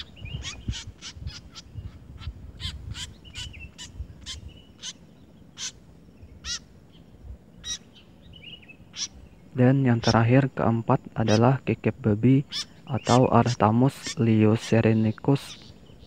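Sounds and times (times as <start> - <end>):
birds calling sharply: 0.0 - 11.7, 12.3 - 16.0.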